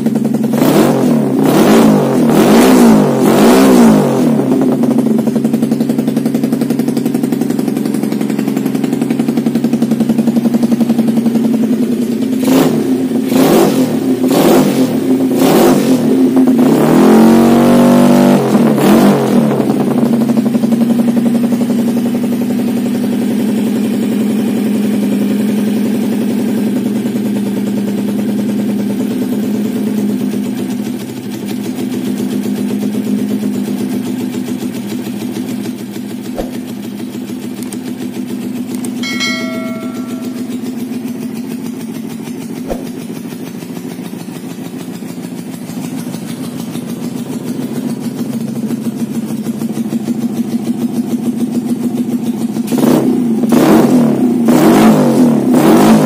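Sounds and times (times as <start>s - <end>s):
motorcycle engine idling: 0.0s - 2.4s, 3.0s - 53.5s
motorcycle engine revving: 0.0s - 56.0s.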